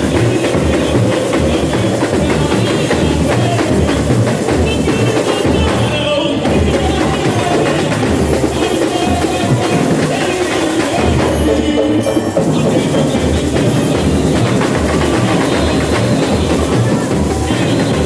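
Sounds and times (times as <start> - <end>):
bass drums beating: 0.0 - 18.0
busy higher percussion: 0.0 - 18.0.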